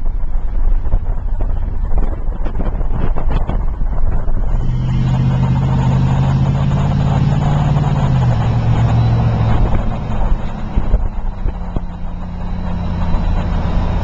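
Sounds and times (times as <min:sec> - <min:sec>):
truck engine running: 0:00.0 - 0:14.0
wind rumbling on microphone: 0:00.0 - 0:14.0.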